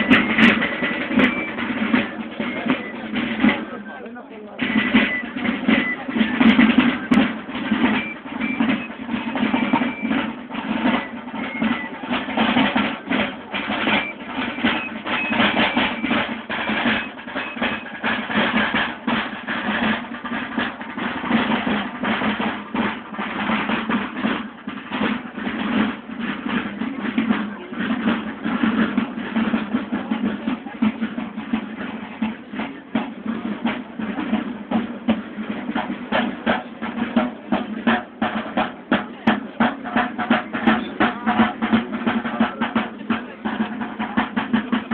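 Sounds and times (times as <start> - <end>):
marching side drums: 0.0 - 44.9.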